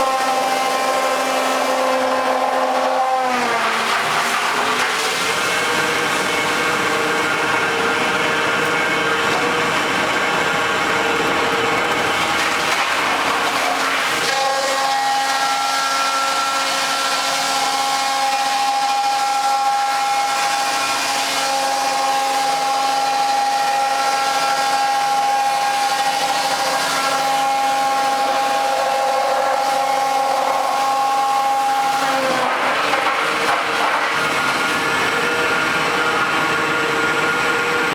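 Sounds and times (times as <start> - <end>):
log crusher humming: 0.0 - 37.9
wood grinding noise: 0.0 - 37.9.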